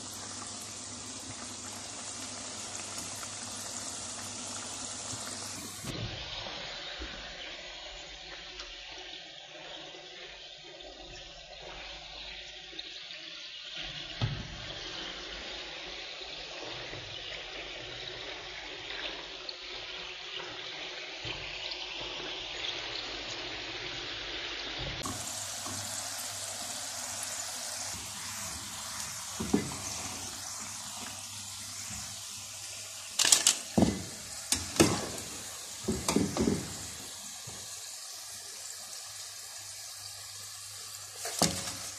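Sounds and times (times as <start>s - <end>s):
potato strips sizzling in oil: 0.0s - 41.9s.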